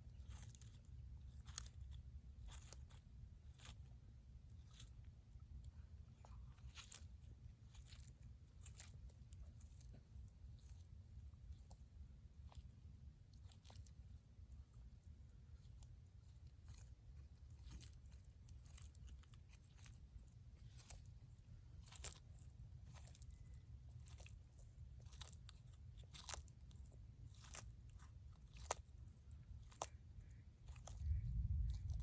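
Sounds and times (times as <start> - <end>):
faint low hum: 0.0 - 32.0
tortoise chewing crisp food: 0.0 - 32.0.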